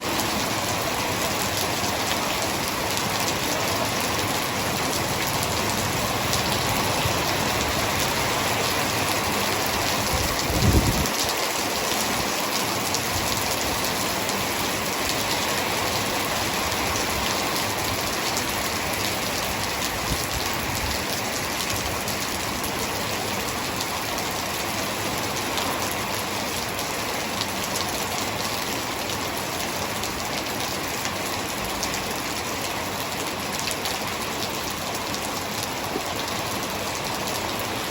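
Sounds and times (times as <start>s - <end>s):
hard rain falling: 0.0s - 37.9s.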